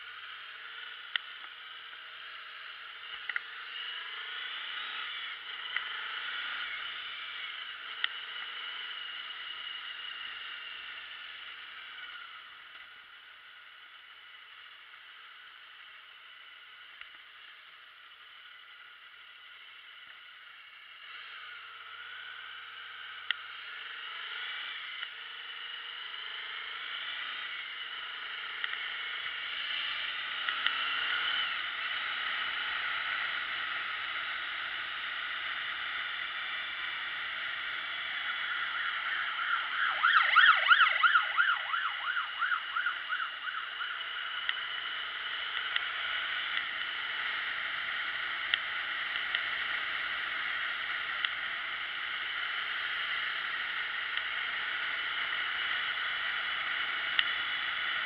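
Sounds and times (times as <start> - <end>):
motorcycle engine: 0.0 - 58.0
wind: 0.0 - 58.0.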